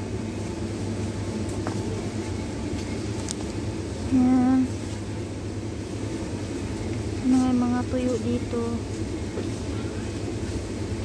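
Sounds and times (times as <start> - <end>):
low indoor hum: 0.0 - 11.0.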